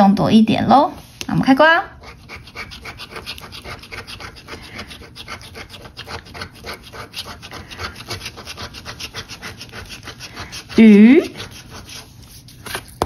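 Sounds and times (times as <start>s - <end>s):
metal scratcher rasping ticket: 2.1s - 13.0s.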